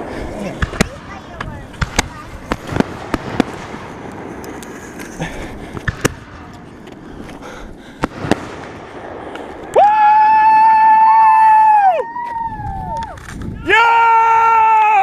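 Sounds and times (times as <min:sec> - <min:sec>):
fireworks bangs: 0:00.0 - 0:13.8
fireworks crackling: 0:00.0 - 0:15.0.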